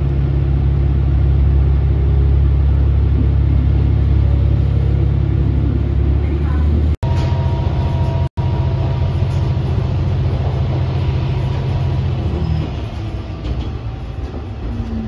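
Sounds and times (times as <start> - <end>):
railcar diesel engine droning: 0.0 - 15.0.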